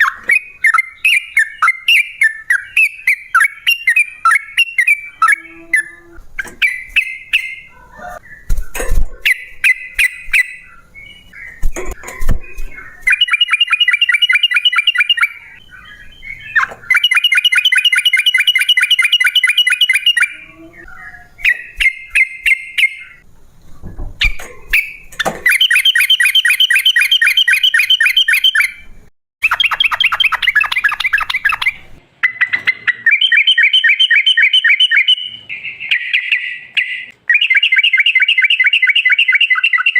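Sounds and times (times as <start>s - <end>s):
bird chirping and trilling: 0.0s - 23.3s, 24.2s - 39.9s.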